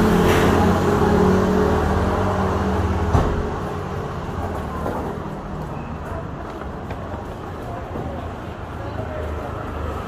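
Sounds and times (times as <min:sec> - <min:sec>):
motor scooter engines passing: 0:00.0 - 0:10.0.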